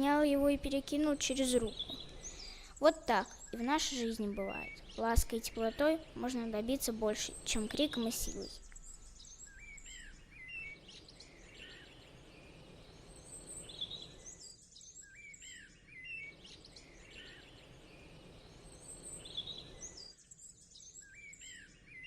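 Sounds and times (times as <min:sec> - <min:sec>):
soft background hiss: 0:00.0 - 0:21.1
small birds chirping: 0:00.0 - 0:22.0.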